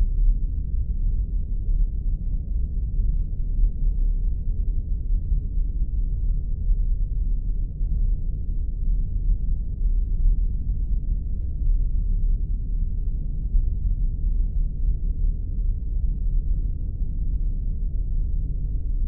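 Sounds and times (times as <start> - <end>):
deep rumbling drone: 0.0 - 19.0.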